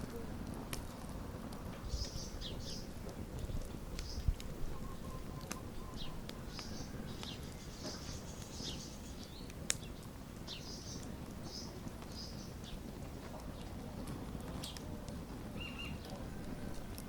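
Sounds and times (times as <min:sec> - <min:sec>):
wood fire crackling: 0:00.0 - 0:17.0
small birds chirping: 0:01.8 - 0:16.4.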